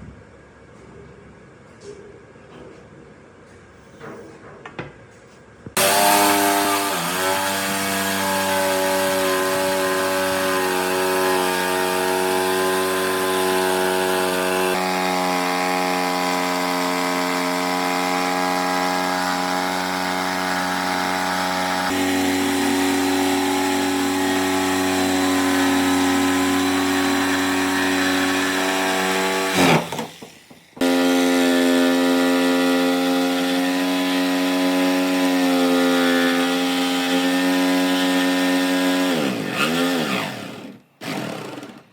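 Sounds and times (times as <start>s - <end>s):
power tool motor whining: 5.8s - 41.9s.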